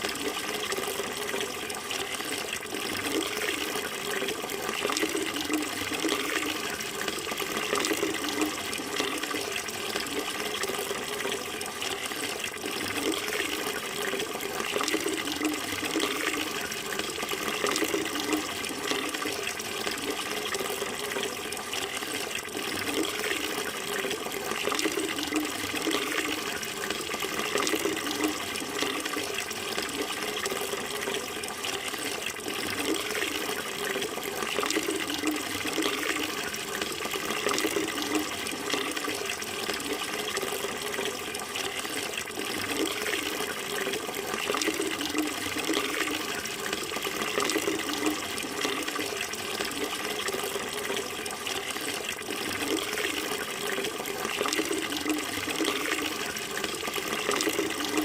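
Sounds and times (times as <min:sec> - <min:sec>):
running water flowing: 0:00.0 - 0:58.0.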